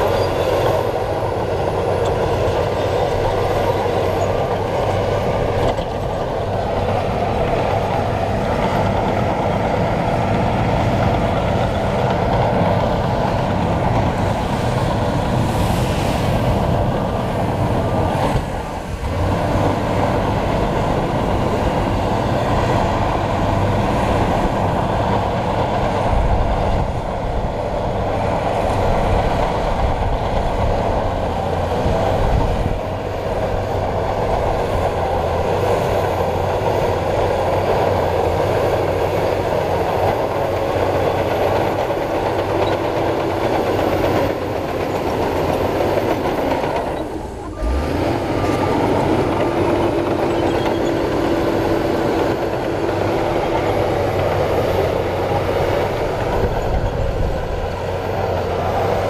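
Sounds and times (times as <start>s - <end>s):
bulldozer diesel engine under load: 0.0s - 59.0s
steel tracks rolling: 0.0s - 59.0s.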